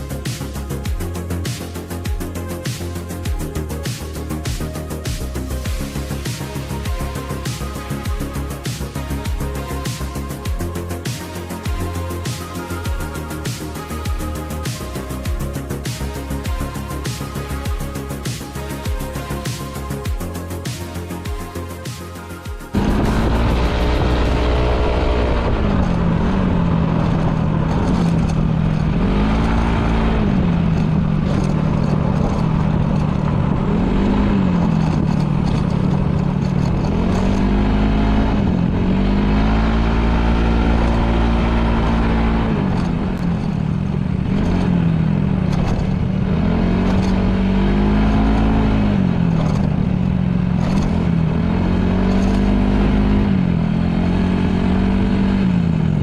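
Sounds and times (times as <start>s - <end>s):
scooter engine revving: 0.0s - 56.0s.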